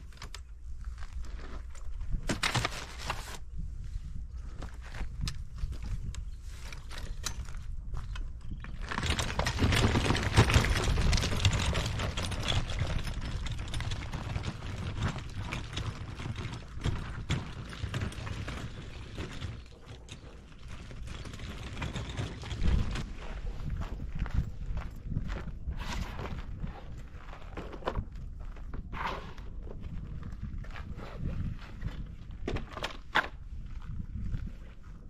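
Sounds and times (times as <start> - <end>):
wagon wheels crunching on gravel: 0.7 - 3.4, 4.4 - 35.0.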